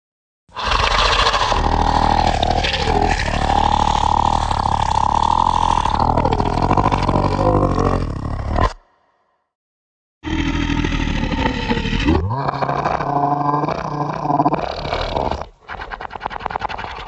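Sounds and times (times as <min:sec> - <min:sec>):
monster growling roar: 0:00.5 - 0:08.9, 0:10.2 - 0:15.6.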